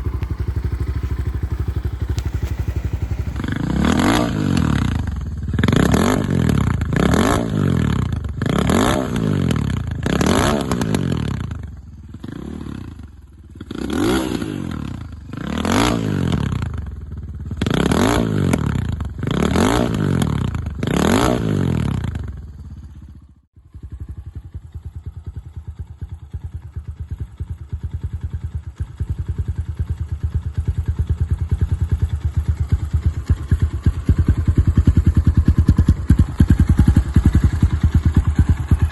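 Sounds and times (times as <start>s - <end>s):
motorcycle engine idling: 0.0s - 38.9s
motorcycle engine revving: 0.0s - 38.9s.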